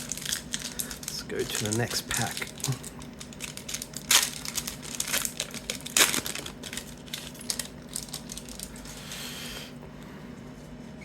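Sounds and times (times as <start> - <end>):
wrapper tearing and crinkling: 0.0 - 9.0.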